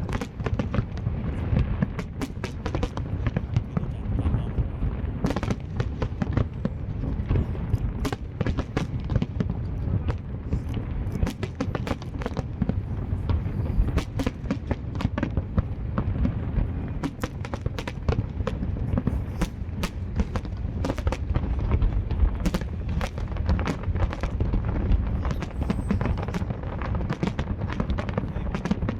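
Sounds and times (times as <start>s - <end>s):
fireworks bangs and cracks: 0.0s - 28.9s
steady low rumble: 0.0s - 28.9s.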